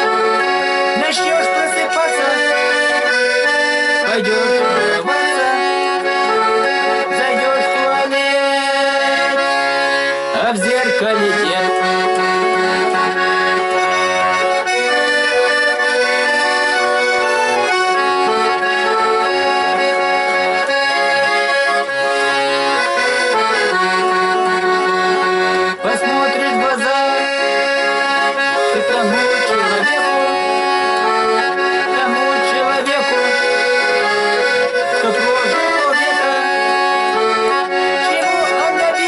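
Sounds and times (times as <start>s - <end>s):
accordion playing chords: 0.0s - 39.0s.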